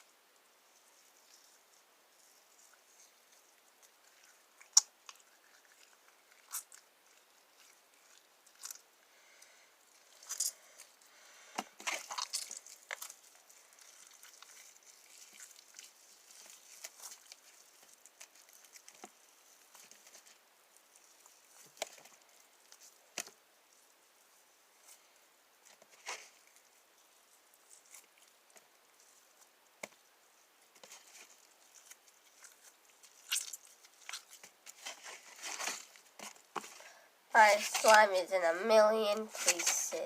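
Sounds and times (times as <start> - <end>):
sticky slime squelching: 0.7 - 40.0.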